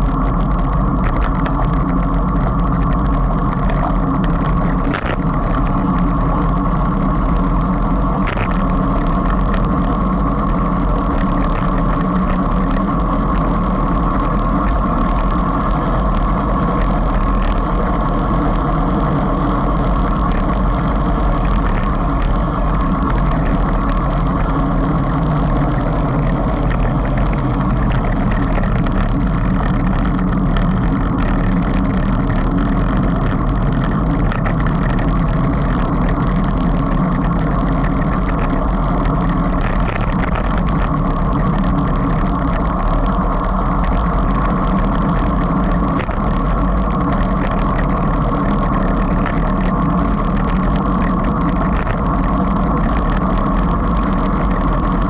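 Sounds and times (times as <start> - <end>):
road noise: 0.0 - 55.0
wind buffeting microphone: 0.0 - 55.0.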